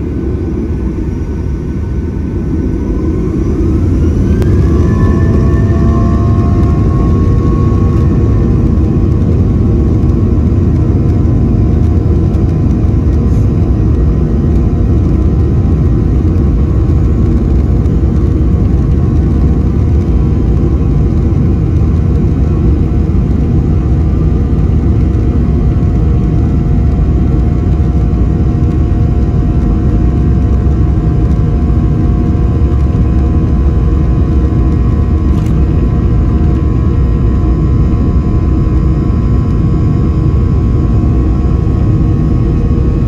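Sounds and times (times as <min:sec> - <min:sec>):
jet engines heard from cabin: 0:00.0 - 0:43.0.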